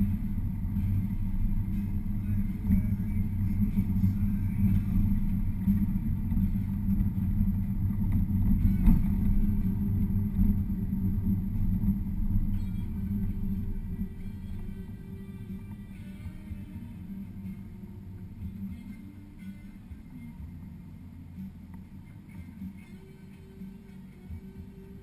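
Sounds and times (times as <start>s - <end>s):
car rumbling on rutted lane: 0.0s - 25.0s.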